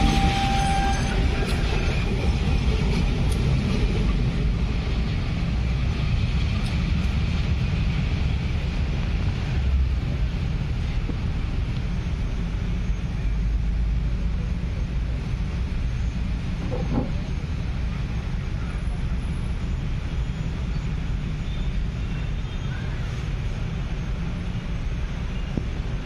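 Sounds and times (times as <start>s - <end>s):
diesel locomotive engine: 0.0s - 26.0s.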